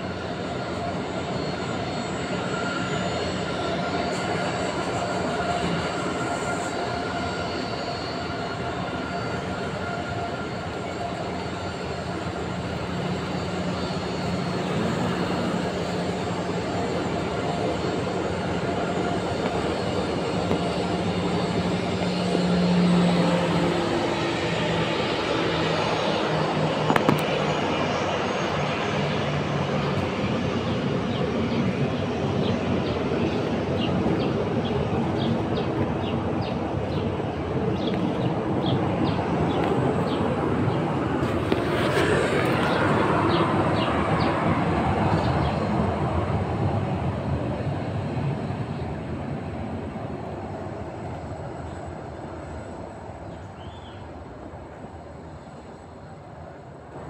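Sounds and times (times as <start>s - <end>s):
jet engines running with whine: 0.0s - 57.0s.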